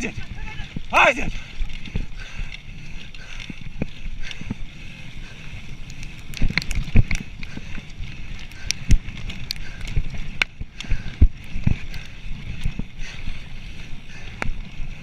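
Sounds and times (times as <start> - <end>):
bike tyres rumbling on dirt: 0.0 - 15.0.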